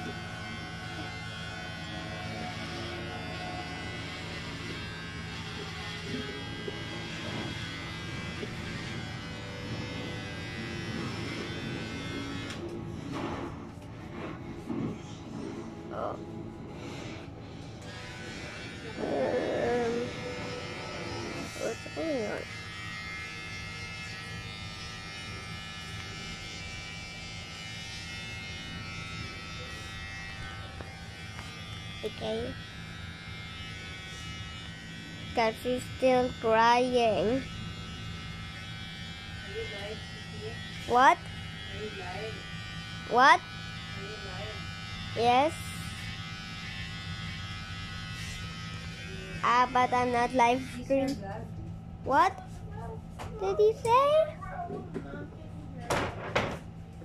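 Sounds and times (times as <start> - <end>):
electric hair clippers buzzing: 0.0 - 54.4, 55.9 - 57.0.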